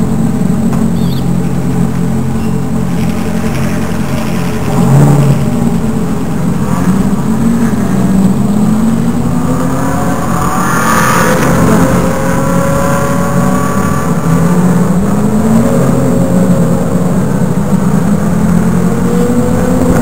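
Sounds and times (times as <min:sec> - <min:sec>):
race car engines running at low revs: 0:00.0 - 0:20.0.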